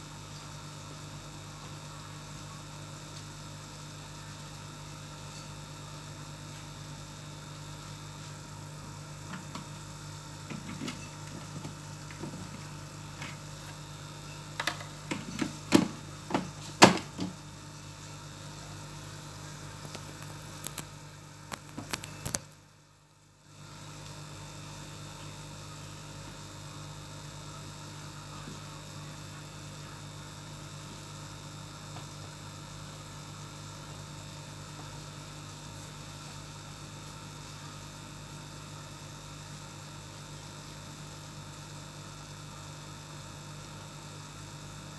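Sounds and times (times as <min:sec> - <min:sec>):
aquarium air pump humming: 0:00.0 - 0:44.9.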